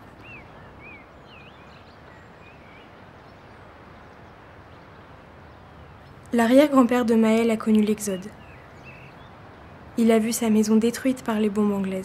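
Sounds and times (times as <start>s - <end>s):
bird chirping: 0.0s - 9.8s
outdoor background noise: 0.0s - 12.0s.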